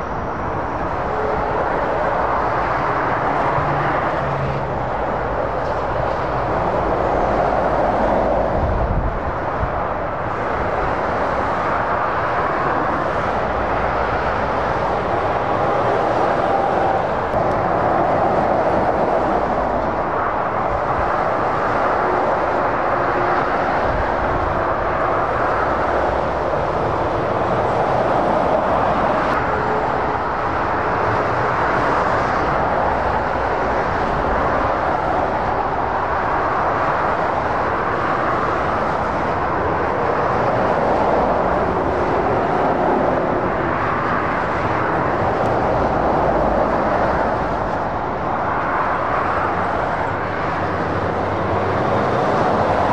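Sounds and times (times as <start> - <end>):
motorway traffic: 0.0 - 52.9.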